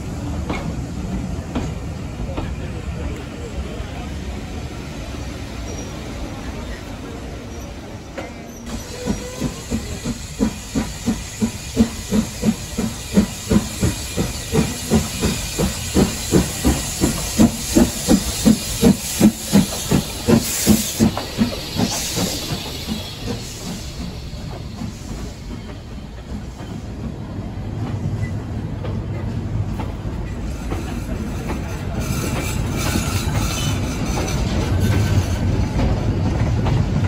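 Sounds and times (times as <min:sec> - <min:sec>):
steam hiss: 0:00.0 - 0:28.7, 0:29.8 - 0:37.0
steam locomotive chuffing: 0:00.0 - 0:37.0.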